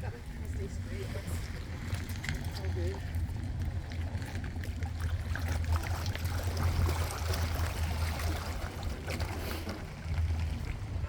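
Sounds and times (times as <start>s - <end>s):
water lapping and trickling: 0.0s - 11.0s.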